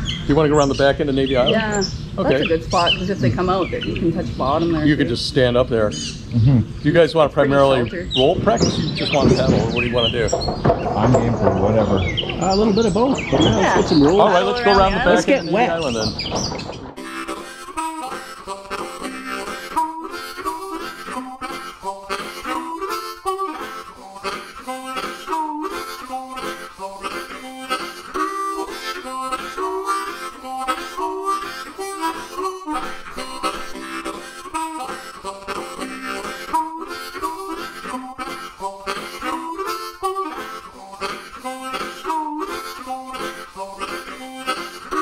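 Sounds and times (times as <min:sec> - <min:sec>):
guitar accompaniment: 0:00.0 - 0:45.0
harmonica tune: 0:00.0 - 0:45.0.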